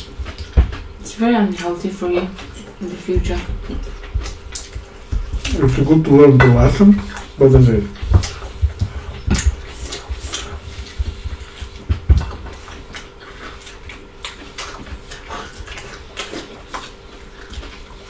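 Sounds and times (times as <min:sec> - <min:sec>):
chewing and mouth sounds: 0:00.0 - 0:18.0
faint steady hum: 0:00.0 - 0:18.0.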